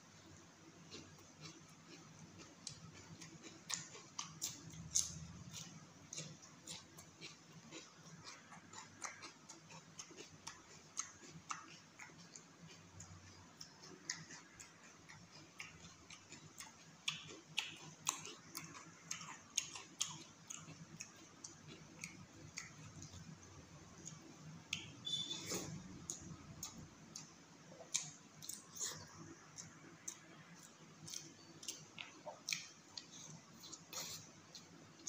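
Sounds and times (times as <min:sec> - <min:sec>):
wet mouth chewing sounds: 0:00.8 - 0:35.0.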